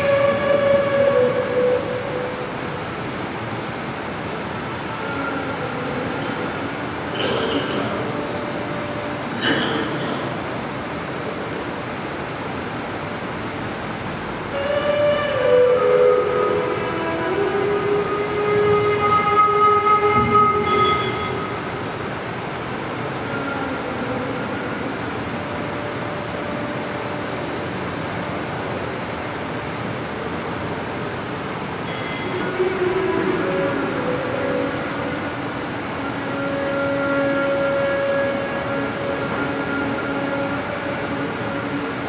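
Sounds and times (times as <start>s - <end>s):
slow ambient music: 0.0s - 12.1s, 13.1s - 42.0s
steady hiss: 0.0s - 42.0s.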